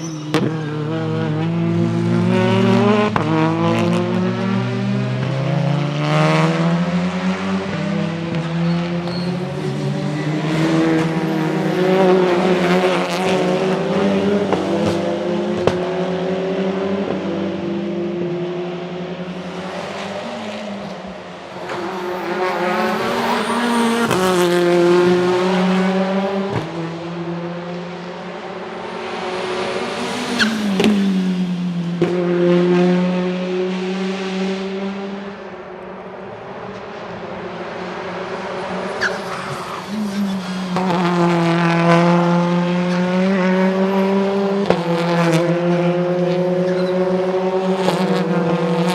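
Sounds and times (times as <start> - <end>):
car engine accelerating: 0.3 - 35.5, 36.8 - 48.9.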